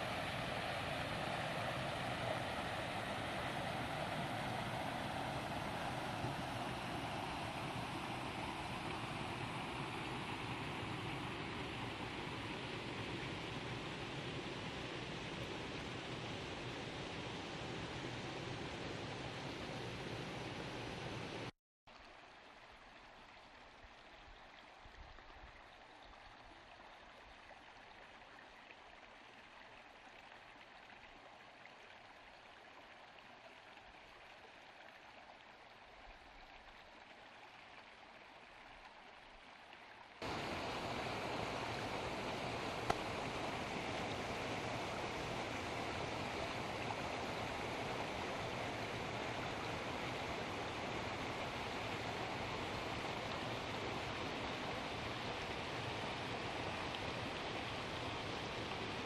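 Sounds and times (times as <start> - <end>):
faint steady hiss: 0.0 - 59.0
running water: 0.0 - 59.0.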